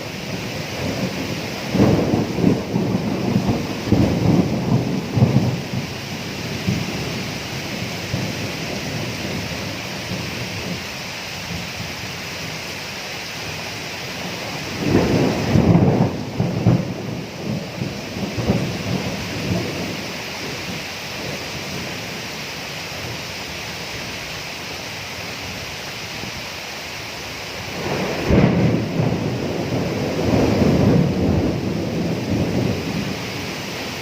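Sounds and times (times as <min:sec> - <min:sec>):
thunder rumbling: 0:00.0 - 0:12.6, 0:13.4 - 0:24.3, 0:27.3 - 0:34.0
steady rain falling: 0:00.0 - 0:34.0.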